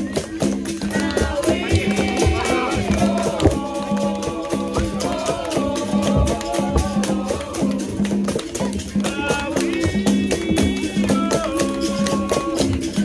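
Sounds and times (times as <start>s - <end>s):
hand percussion and shaker: 0.0s - 13.0s
voices singing: 0.0s - 13.0s.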